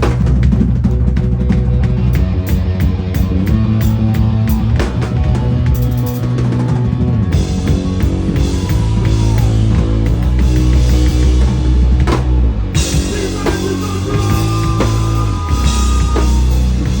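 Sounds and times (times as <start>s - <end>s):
band playing: 0.0s - 17.0s
drum kit playing gospel chops: 0.0s - 17.0s
sustained bass notes: 0.0s - 17.0s.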